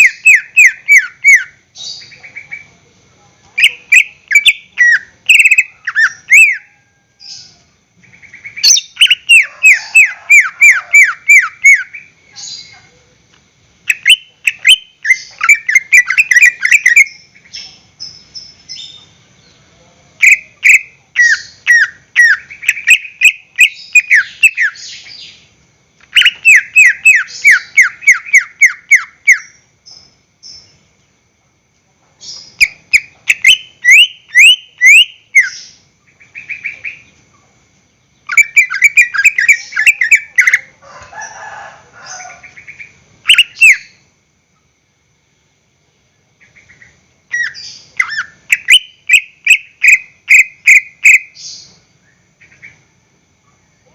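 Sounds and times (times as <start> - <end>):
bird singing whistled notes: 0.0 - 2.7, 3.6 - 12.7, 13.9 - 25.5, 26.1 - 30.8, 32.2 - 37.2, 38.2 - 40.7, 42.7 - 44.0, 46.5 - 52.8.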